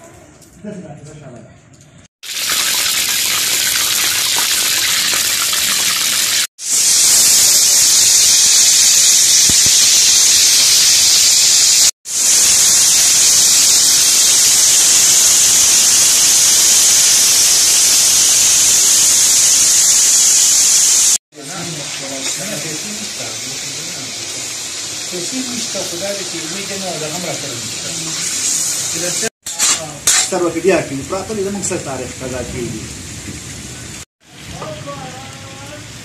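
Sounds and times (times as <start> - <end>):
chicken sizzling in hot oil: 2.2 - 32.0.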